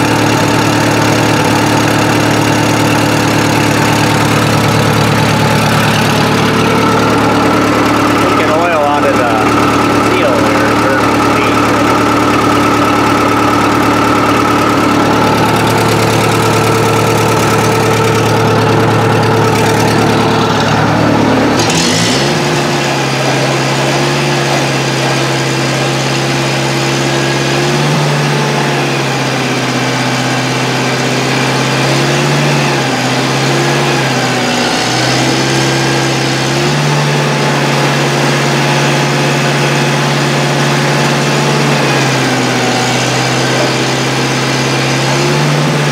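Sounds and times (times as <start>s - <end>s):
engine clunk: 0.0s - 45.9s
gasoline engine running: 0.0s - 45.9s.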